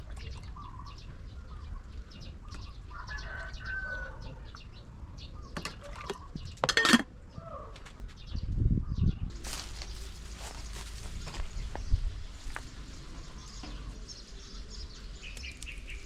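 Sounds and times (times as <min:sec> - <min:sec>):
small birds chirping: 0:00.0 - 0:06.6, 0:07.3 - 0:16.0.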